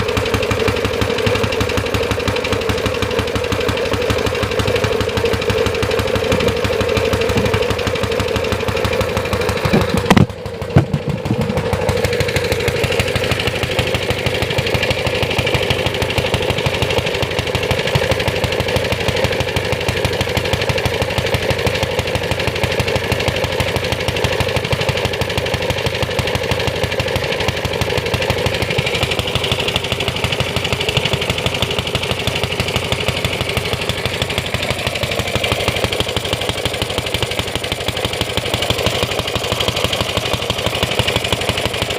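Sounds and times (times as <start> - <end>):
engine sharp pops: 0.0 - 41.9
single-cylinder engine running: 0.0 - 41.9.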